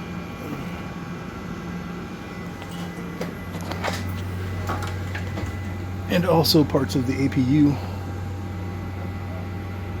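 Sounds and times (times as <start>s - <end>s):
machinery low hum: 0.0s - 10.0s.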